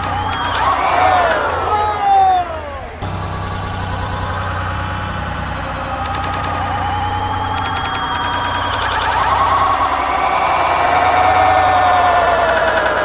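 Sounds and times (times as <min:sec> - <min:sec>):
crowd cheering: 0:00.0 - 0:13.0.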